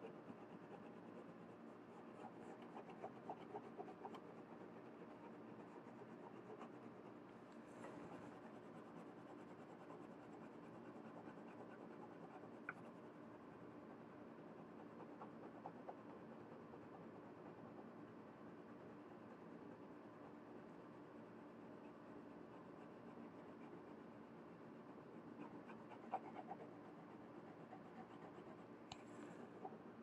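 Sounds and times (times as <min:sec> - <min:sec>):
pencil scratching on paper: 0:00.0 - 0:13.6, 0:14.4 - 0:17.8, 0:19.2 - 0:28.8.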